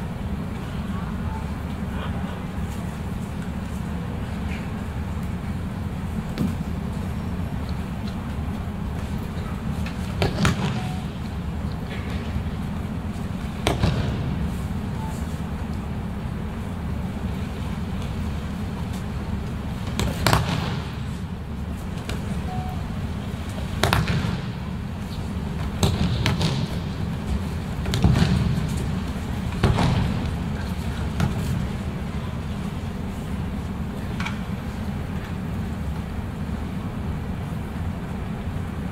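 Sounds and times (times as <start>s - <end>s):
low hum of hall: 0.0s - 38.9s.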